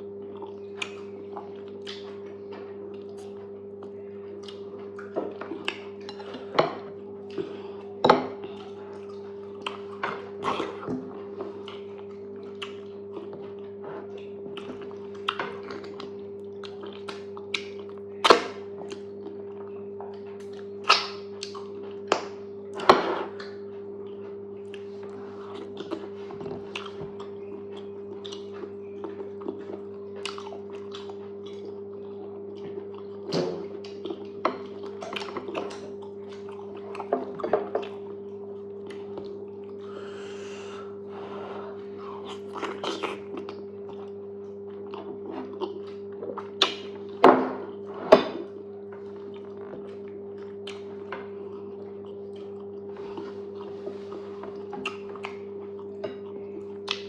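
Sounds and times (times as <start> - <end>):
steady low hum: 0.0 - 57.0
wet chewing and mouth smacks: 0.3 - 6.5, 8.4 - 22.3, 23.4 - 40.4, 42.2 - 47.2, 48.8 - 57.0.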